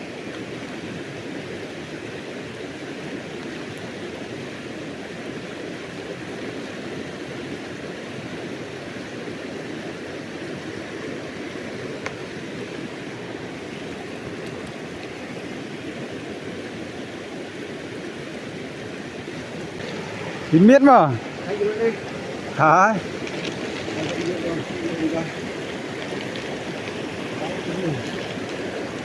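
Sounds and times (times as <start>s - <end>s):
river flowing: 0.0s - 29.0s.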